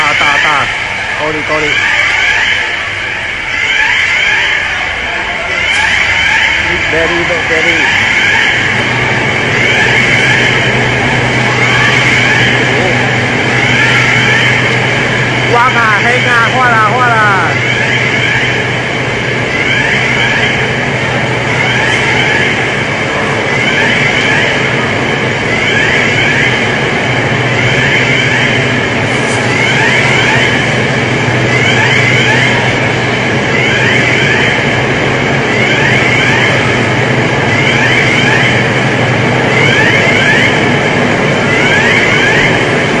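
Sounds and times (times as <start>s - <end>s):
fire alarm electronic sweeps: 0.0s - 43.0s
loud steady rushing noise: 0.0s - 43.0s.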